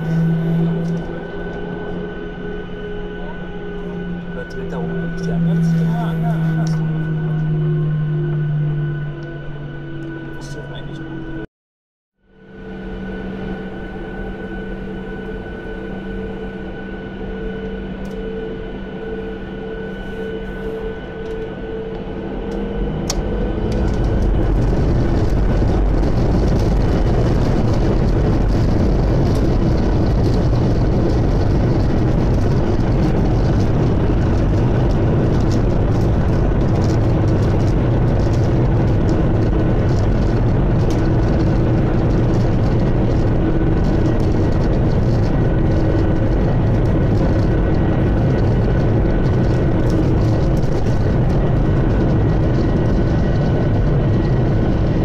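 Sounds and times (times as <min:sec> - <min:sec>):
jet engines whining and roaring: 0:00.0 - 0:11.5, 0:12.3 - 0:55.0.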